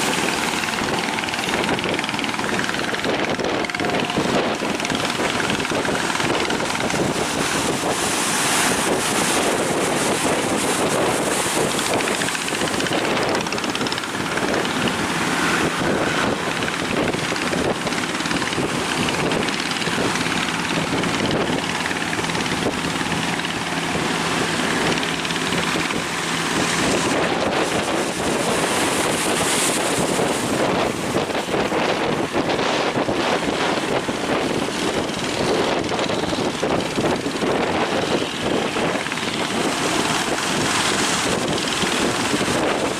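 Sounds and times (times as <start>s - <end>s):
boat motor running: 0.0s - 42.9s
surf rushing: 0.0s - 42.9s
wind noise on microphone: 0.0s - 42.9s.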